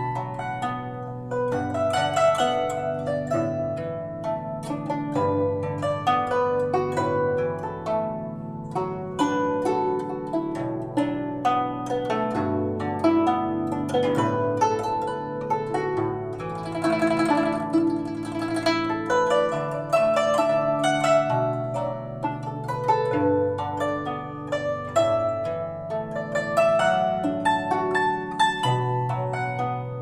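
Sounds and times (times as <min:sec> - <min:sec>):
zither melody with plucked notes: 0:00.0 - 0:30.0.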